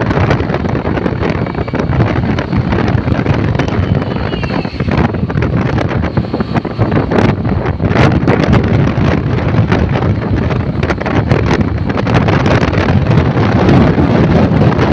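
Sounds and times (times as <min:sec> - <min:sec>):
road riding rumble: 0:00.0 - 0:14.9
wind buffeting microphone: 0:00.0 - 0:14.9.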